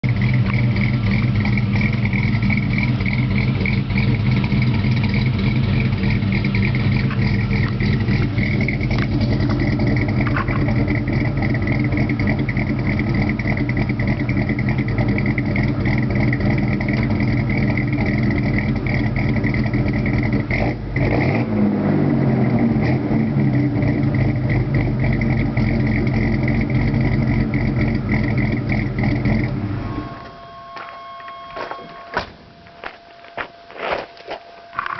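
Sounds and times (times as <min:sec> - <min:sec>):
truck engine idling roughly: 0:00.0 - 0:21.0, 0:23.2 - 0:31.4.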